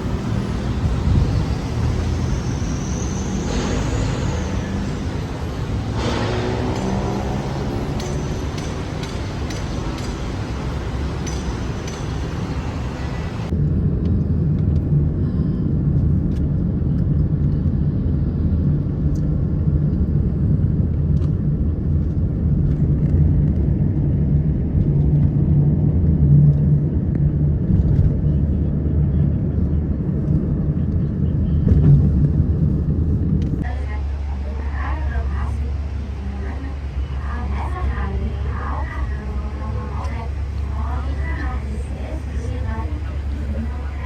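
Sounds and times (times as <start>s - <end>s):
vehicle engine rumble: 0.0s - 44.0s.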